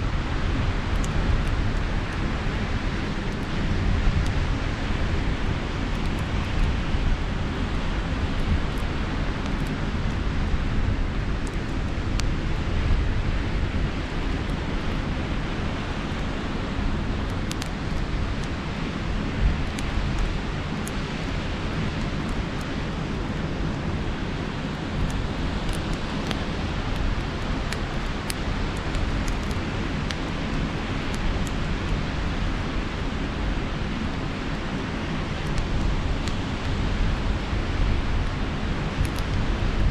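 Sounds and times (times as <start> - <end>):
campfire crackling and popping: 0.0 - 39.9
wind rumble on microphone: 0.0 - 39.9.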